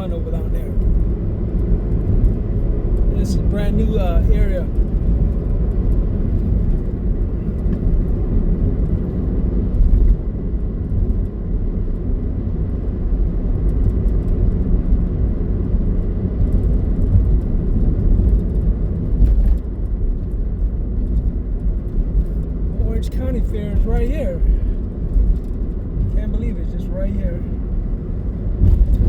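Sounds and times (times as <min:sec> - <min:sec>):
low rumble of travel noise: 0:00.0 - 0:29.0.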